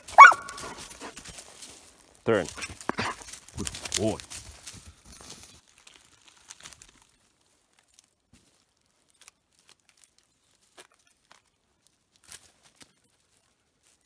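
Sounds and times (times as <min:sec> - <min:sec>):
dry forest litter crunching: 0:00.0 - 0:14.0.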